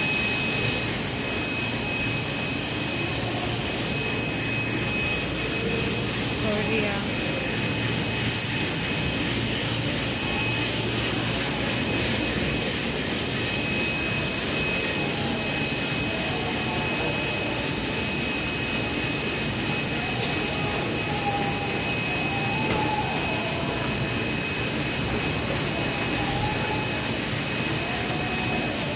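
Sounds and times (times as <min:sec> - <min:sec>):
faint high whine: 0:00.0 - 0:28.9
industrial fans and machinery drone: 0:00.0 - 0:28.9.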